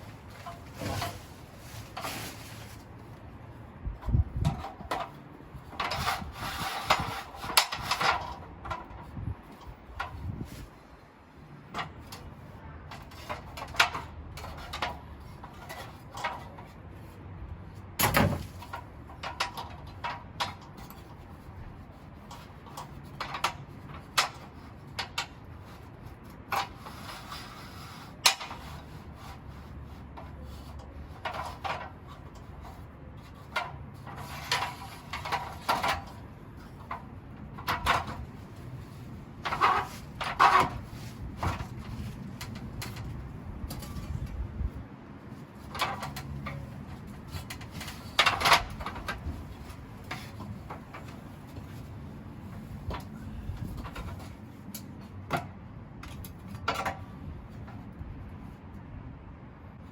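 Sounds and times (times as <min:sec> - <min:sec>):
low steady background noise: 0:00.0 - 0:59.9.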